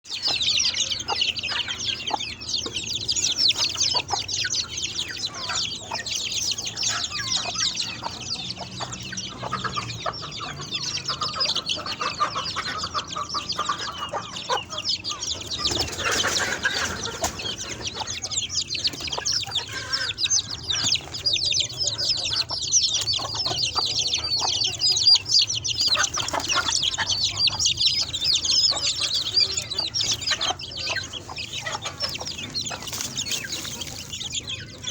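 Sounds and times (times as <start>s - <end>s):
chickens peeping and clucking: 0.0s - 34.9s.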